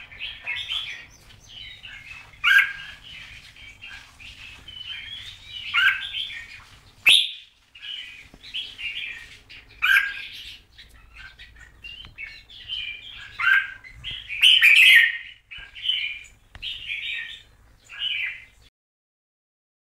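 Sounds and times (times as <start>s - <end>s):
bird singing short phrases: 0.0s - 18.6s.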